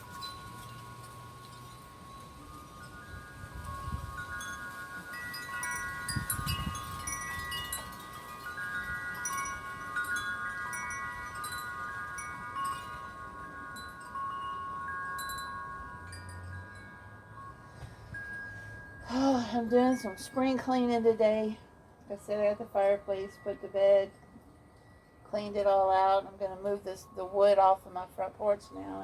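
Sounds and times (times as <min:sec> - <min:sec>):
low wind rumbles: 0:00.0 - 0:27.5
wind chimes ringing: 0:00.0 - 0:29.0.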